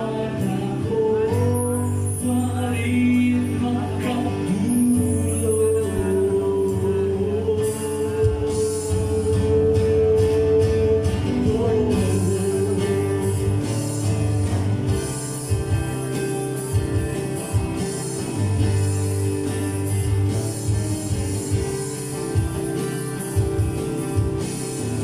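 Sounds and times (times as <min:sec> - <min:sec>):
acoustic guitar: 0:00.0 - 0:25.0
keyboard: 0:00.0 - 0:25.0.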